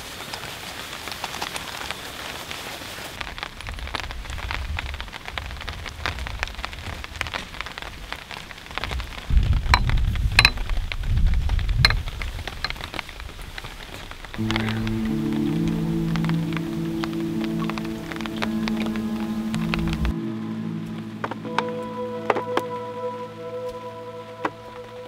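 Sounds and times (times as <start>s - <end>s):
rain patter: 0.0s - 25.0s.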